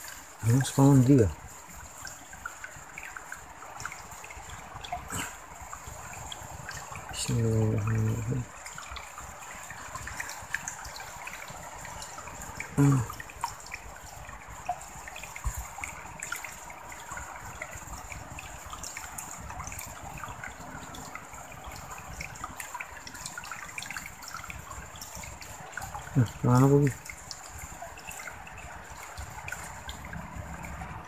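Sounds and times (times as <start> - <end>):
small water splashes: 0.0 - 31.0
stream trickling: 0.0 - 31.0.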